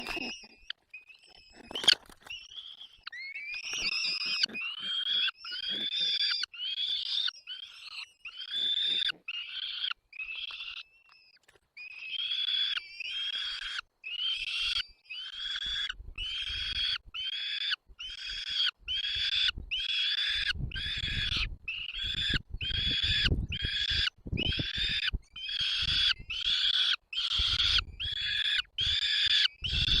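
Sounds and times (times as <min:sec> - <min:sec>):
bird nestlings begging calls: 0:00.0 - 0:30.0.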